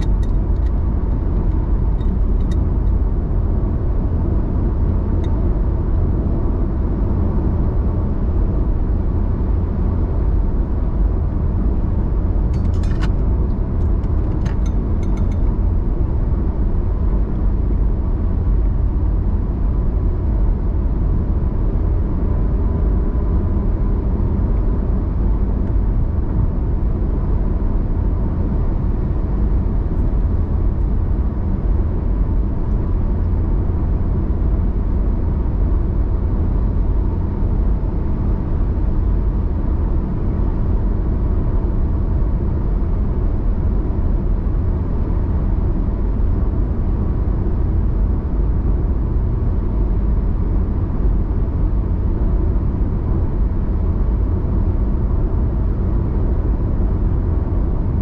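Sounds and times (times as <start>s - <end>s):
car cruising at highway speed: 0.0s - 58.0s.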